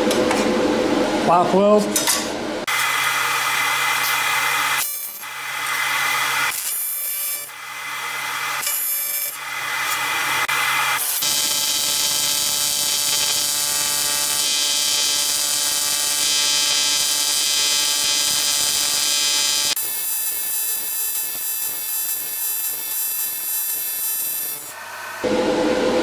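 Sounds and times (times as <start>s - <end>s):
welding arc hiss: 2.7s - 24.8s
welding arc buzzing: 2.7s - 25.3s.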